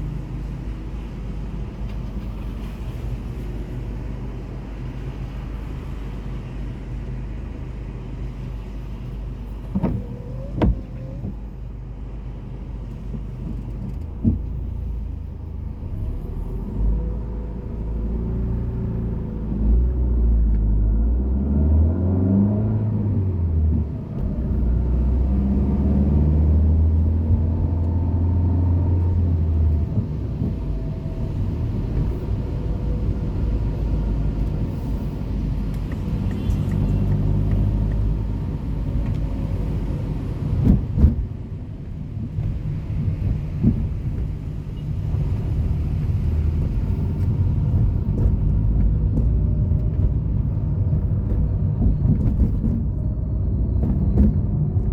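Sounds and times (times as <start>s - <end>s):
traffic rumble: 0.0s - 54.9s
vehicle engine humming: 0.0s - 54.9s.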